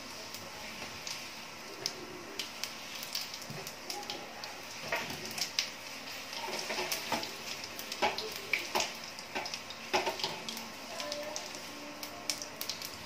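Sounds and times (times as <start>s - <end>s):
spices sizzling and popping in oil: 0.0s - 13.0s.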